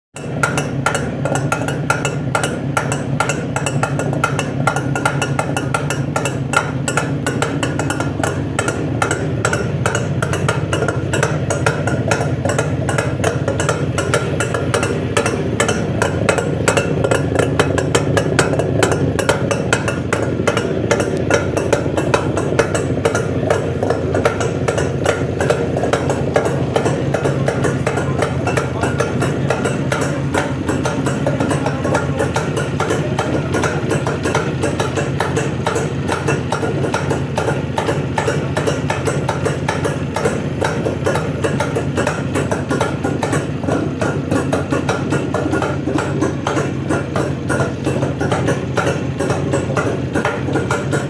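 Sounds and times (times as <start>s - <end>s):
motorcycle engine running: 0.1s - 51.0s
rapid mechanical ticking: 0.1s - 51.0s.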